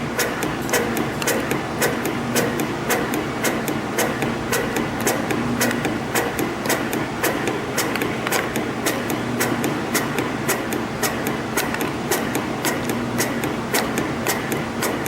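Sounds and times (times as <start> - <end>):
mechanical hum: 0.0 - 15.0
machine clicking: 0.1 - 15.0.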